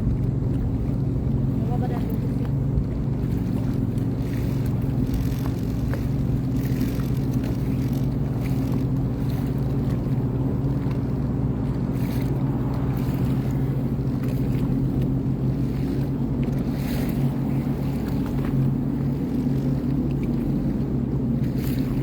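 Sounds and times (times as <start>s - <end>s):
watercraft engine droning: 0.0s - 22.0s.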